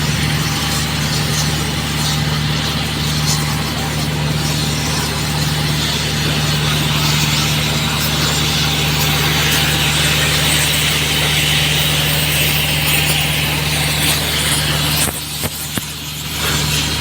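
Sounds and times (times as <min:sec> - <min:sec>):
engine idling: 0:00.0 - 0:17.0
heating torch hissing: 0:00.0 - 0:17.0.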